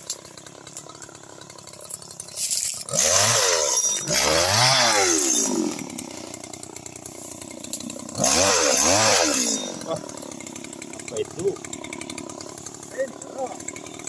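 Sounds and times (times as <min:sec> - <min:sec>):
small engine idling and revving: 0:00.0 - 0:14.0.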